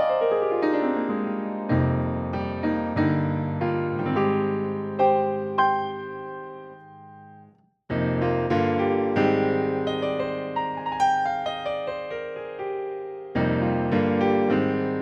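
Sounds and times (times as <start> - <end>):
synthesizer piano chords: 0.0 - 15.0.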